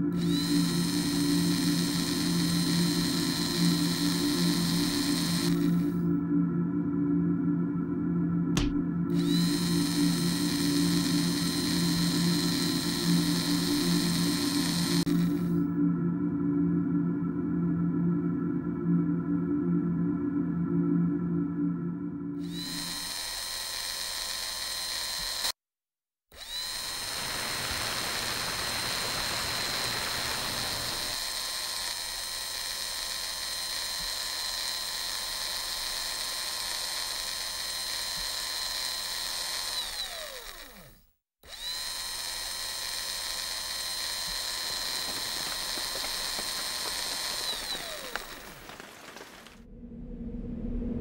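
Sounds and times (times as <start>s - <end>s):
electric motor whine: 0.0s - 6.2s, 8.6s - 15.7s, 22.4s - 25.6s, 26.4s - 51.0s.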